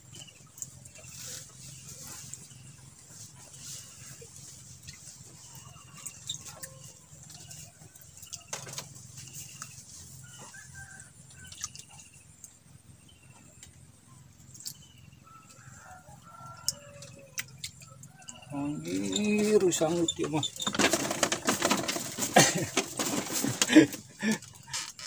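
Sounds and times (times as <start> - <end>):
birds chirping: 0.0 - 21.1.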